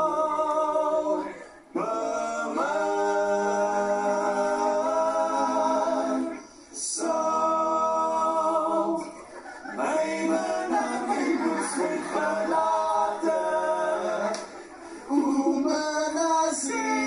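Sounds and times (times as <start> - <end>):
person singing unaccompanied: 0.0 - 17.0.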